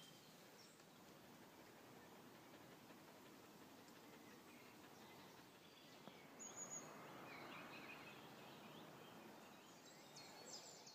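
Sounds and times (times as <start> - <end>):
birds chirping and trilling: 0.0 - 10.9
outdoor ambience hiss: 0.0 - 10.9.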